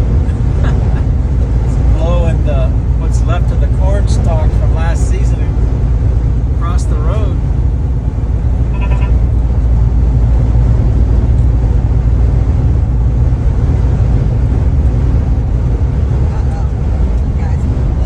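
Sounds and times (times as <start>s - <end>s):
dust storm wind: 0.0s - 18.0s
low rumble inside vehicle: 0.0s - 18.0s.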